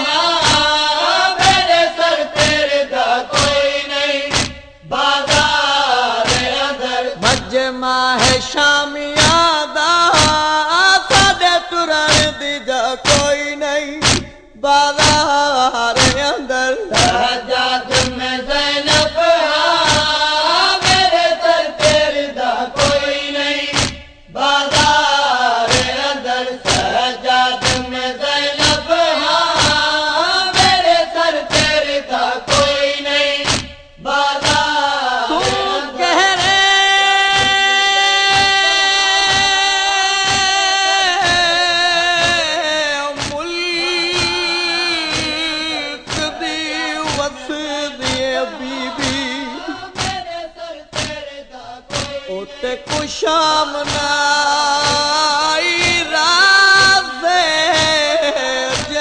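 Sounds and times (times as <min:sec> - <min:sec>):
chest-beating rhythm: 0:00.0 - 0:59.0
man chanting a lament: 0:00.0 - 0:59.0.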